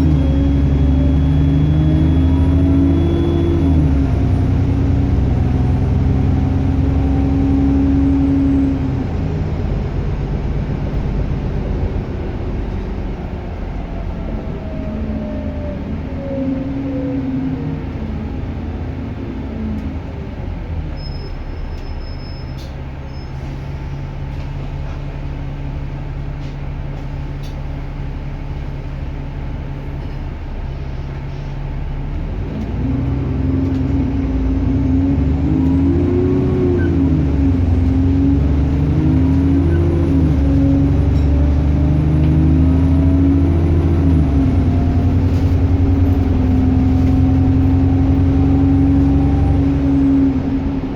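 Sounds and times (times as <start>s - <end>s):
bus engine running: 0.0s - 50.9s.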